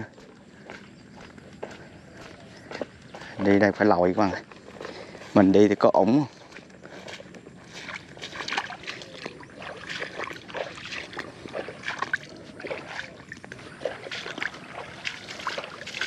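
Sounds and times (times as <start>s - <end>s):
wading through water: 0.0s - 16.0s.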